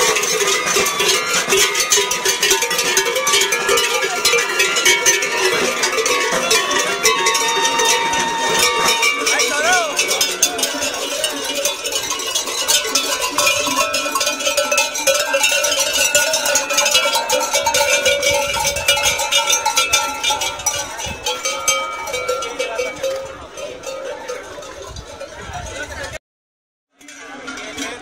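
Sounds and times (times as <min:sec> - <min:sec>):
cowbells clanking: 0:00.0 - 0:26.2, 0:27.0 - 0:28.0.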